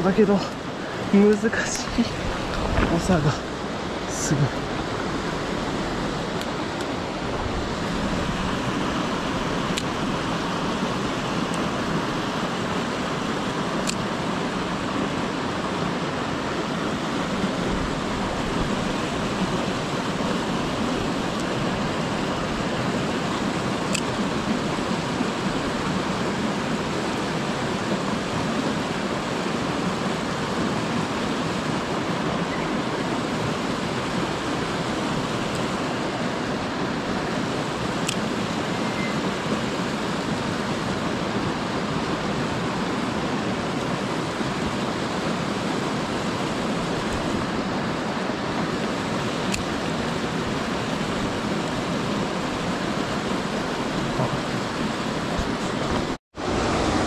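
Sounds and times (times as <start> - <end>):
mountain stream over cascades: 0.0 - 57.0.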